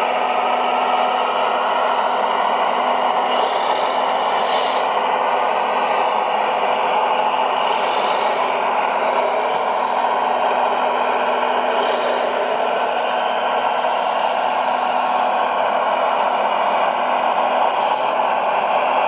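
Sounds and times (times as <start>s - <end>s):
model excavator hydraulic whir: 0.0s - 19.0s.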